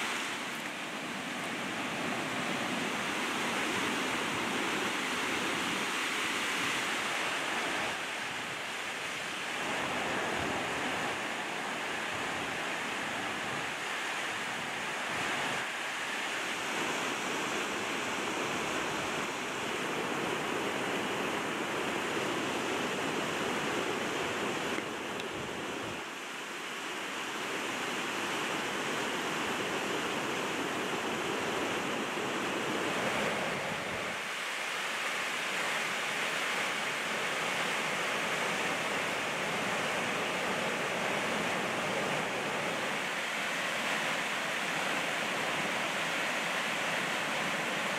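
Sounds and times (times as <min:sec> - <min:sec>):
river rushing in white water: 0:00.0 - 0:47.9.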